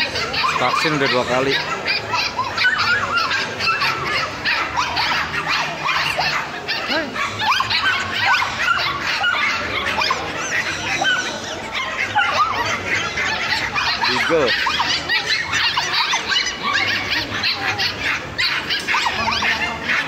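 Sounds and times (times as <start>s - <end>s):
puppies yipping and whining: 0.0s - 20.0s.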